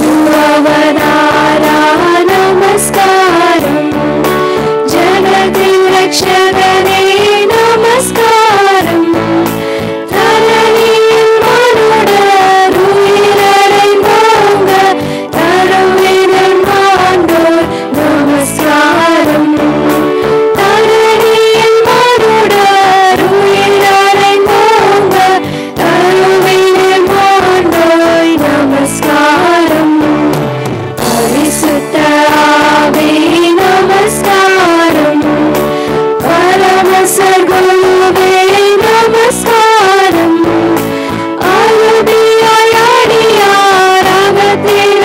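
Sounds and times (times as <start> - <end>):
women's choir singing: 0.0 - 3.8, 4.8 - 9.4, 10.1 - 19.7, 20.6 - 30.0, 31.0 - 35.5, 36.2 - 40.5, 41.4 - 45.0
instrumental accompaniment: 0.0 - 45.0.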